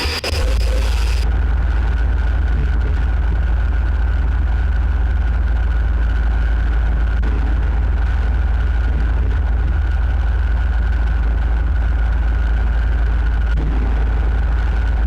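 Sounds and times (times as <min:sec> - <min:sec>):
deep droning rumble: 0:00.0 - 0:15.0.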